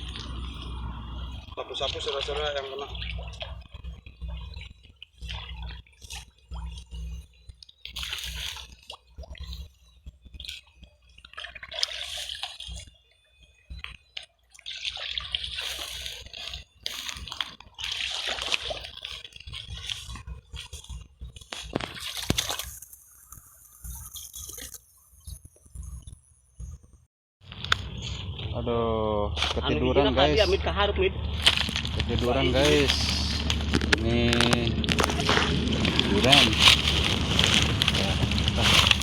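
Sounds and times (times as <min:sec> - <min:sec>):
shallow water splashing: 0:00.0 - 0:25.4, 0:31.3 - 0:39.0.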